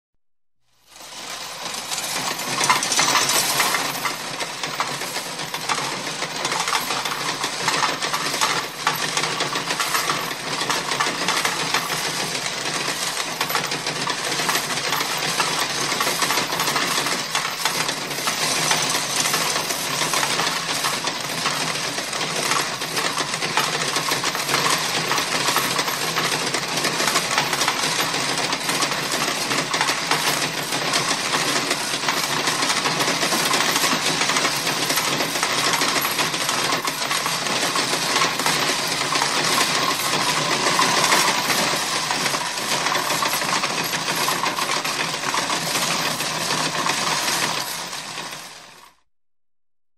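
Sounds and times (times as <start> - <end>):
coin counting machine running: 0.8 - 49.0
coins clinking and rattling: 0.9 - 49.0.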